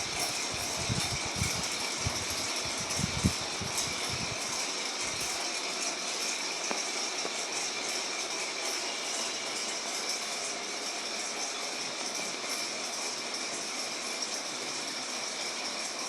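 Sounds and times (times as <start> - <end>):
washing machine whirring: 0.0 - 16.0.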